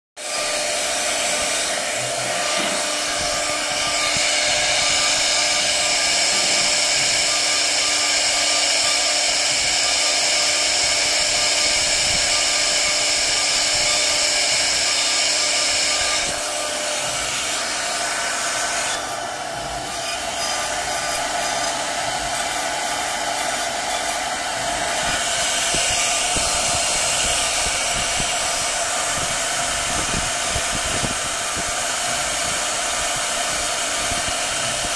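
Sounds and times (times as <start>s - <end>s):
power tool motor whine: 0.2s - 34.9s.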